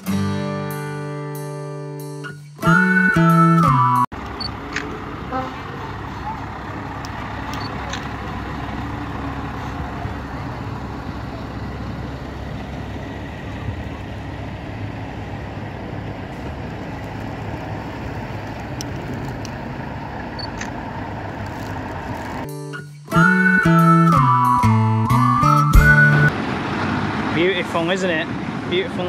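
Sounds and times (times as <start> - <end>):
truck diesel engine at low revs: 2.6 - 29.0.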